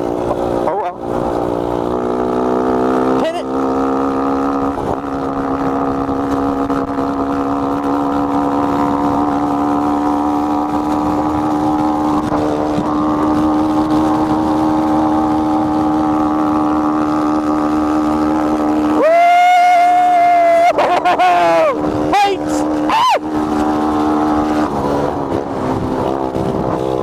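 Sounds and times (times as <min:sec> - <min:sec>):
minibike engine running: 0:00.0 - 0:27.0
wind rushing over microphone: 0:00.0 - 0:27.0.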